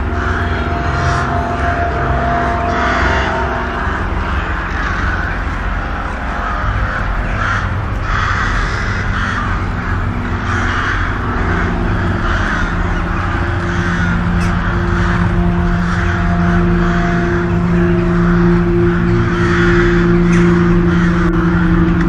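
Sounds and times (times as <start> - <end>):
low steady drone: 0.0 - 22.0.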